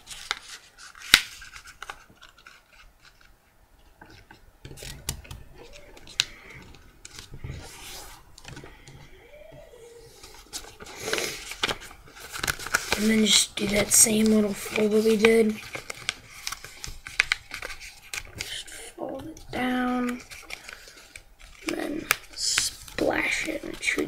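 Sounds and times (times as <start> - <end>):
paper folding and rustling: 0.0 - 9.2, 9.9 - 24.0.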